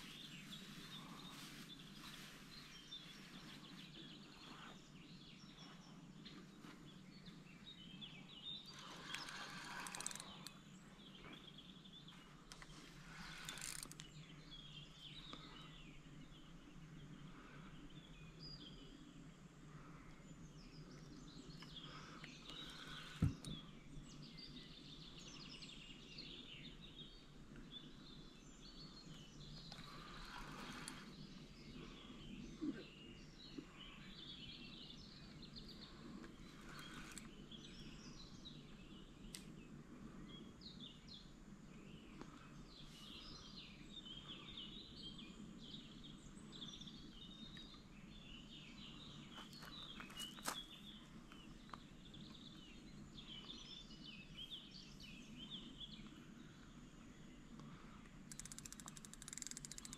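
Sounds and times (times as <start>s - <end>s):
small birds chirping and singing: 0.0s - 59.9s.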